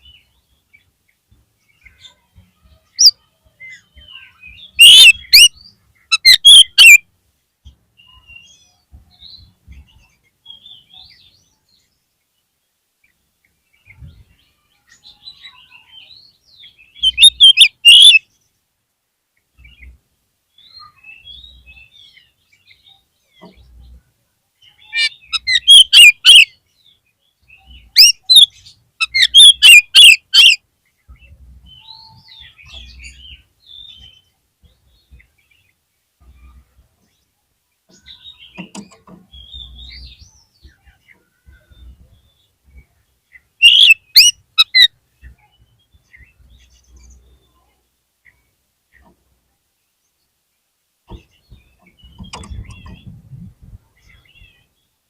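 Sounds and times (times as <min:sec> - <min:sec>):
bird singing: 0:00.0 - 0:18.6, 0:19.4 - 0:49.2, 0:51.1 - 0:55.0.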